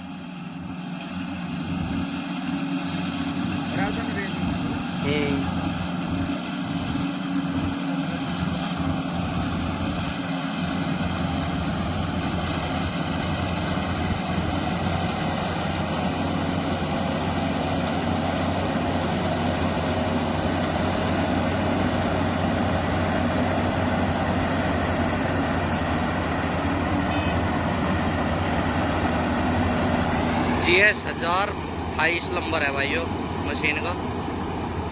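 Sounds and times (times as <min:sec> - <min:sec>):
combine harvester engine hum: 0:00.0 - 0:34.9.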